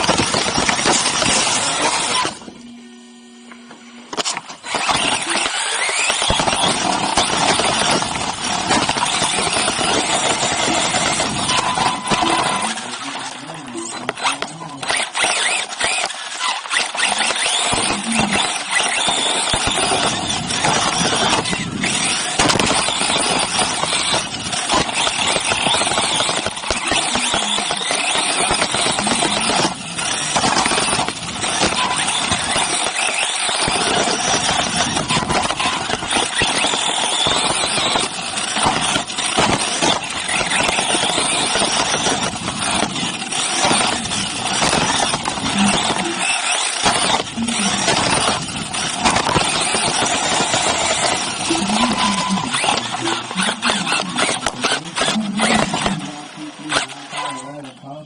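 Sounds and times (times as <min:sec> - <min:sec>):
electric motor whine: 0:00.0 - 0:57.8.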